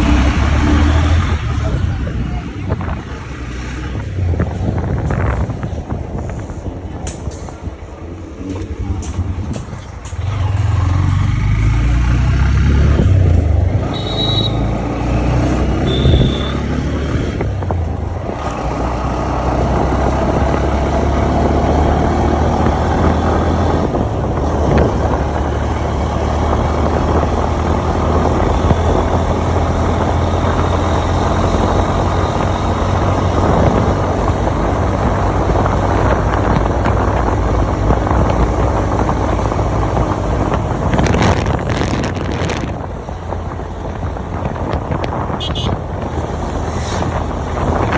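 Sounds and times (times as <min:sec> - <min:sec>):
motorcycle engine drone: 0:00.0 - 0:47.9
wind rush on microphone: 0:00.0 - 0:47.9.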